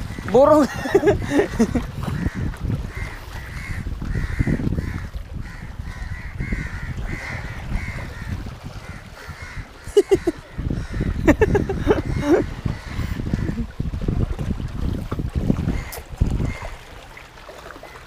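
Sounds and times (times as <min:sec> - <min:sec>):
wind noise on microphone: 0:00.0 - 0:17.1.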